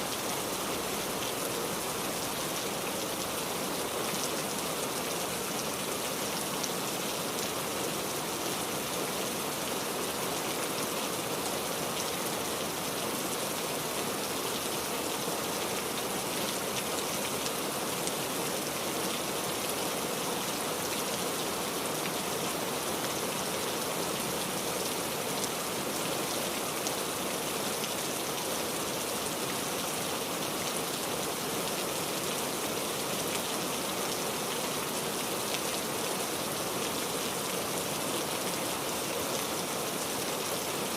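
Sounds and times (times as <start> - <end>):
rain pattering on a surface: 0.0 - 40.9.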